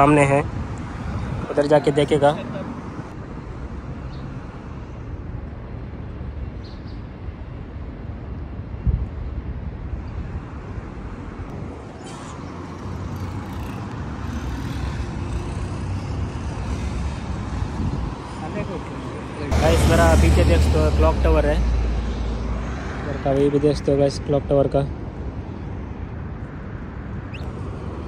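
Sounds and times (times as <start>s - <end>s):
rumble of passing cars: 0.0s - 28.0s.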